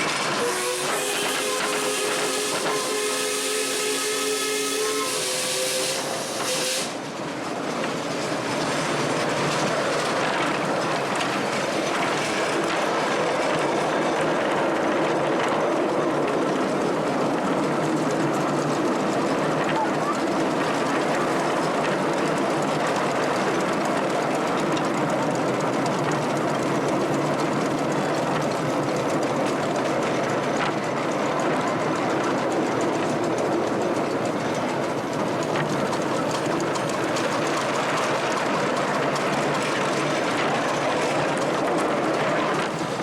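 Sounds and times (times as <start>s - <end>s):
miniature train rumbling: 0.0s - 43.0s
wheels clickety-clack: 0.0s - 43.0s.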